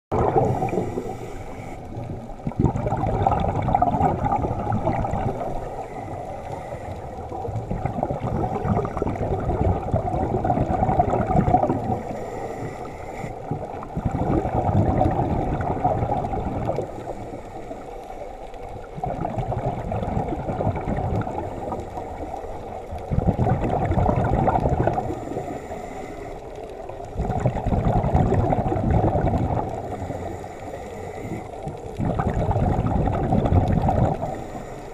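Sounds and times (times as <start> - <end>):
regulator bubbles gurgling underwater: 0.1 - 34.9
soft water rush: 0.1 - 34.9.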